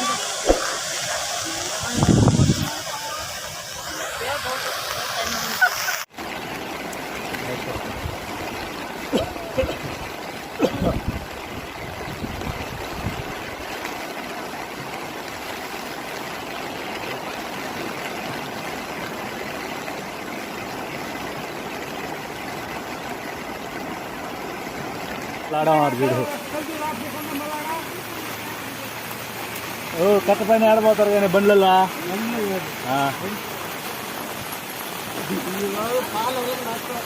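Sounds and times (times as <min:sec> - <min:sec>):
river rushing: 0:00.0 - 0:37.0.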